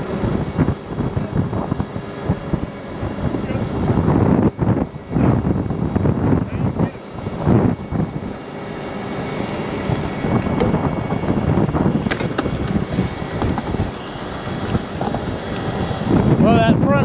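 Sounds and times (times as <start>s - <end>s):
heavy truck engine running: 0.0s - 17.0s
wind buffeting microphone: 0.0s - 17.0s.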